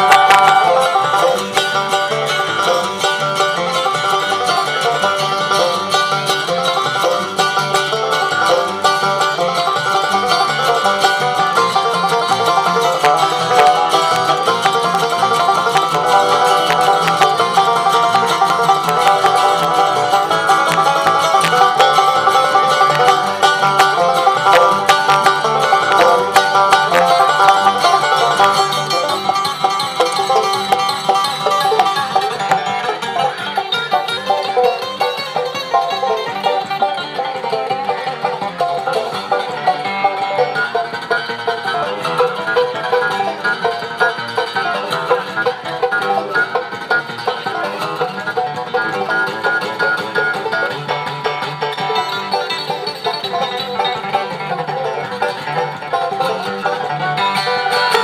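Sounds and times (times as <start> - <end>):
banjo: 0.0 - 58.0
bluegrass band playing: 0.0 - 58.0.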